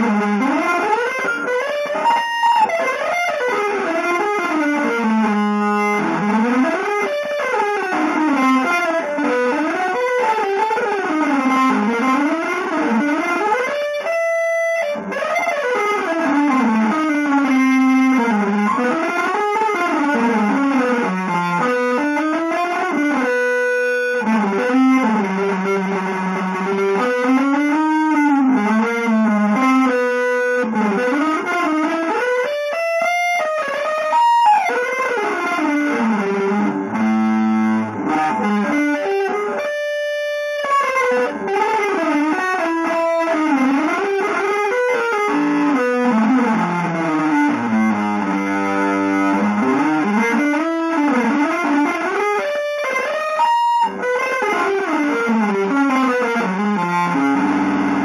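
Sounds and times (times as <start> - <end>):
electric guitar melody: 0.0 - 58.0.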